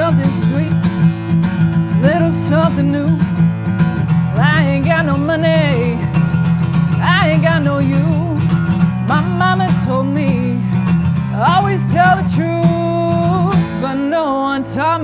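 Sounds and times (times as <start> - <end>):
strummed acoustic guitar: 0.0 - 15.0
woman singing: 0.0 - 15.0.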